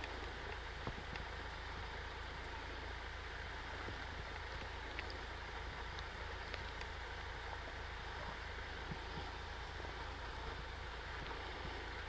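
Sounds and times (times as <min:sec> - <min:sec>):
faint ticks: 0:00.0 - 0:02.7, 0:03.7 - 0:12.0
outdoor background hiss: 0:00.0 - 0:12.0.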